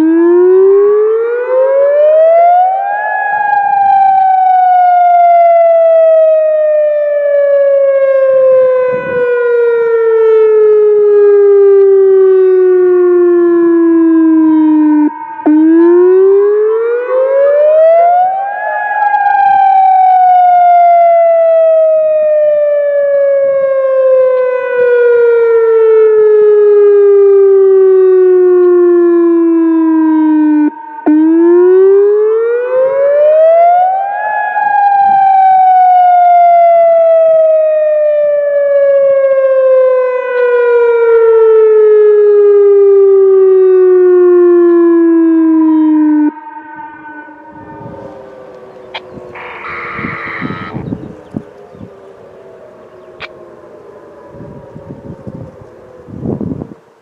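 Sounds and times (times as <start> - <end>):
warning siren wailing: 0.0 - 57.0.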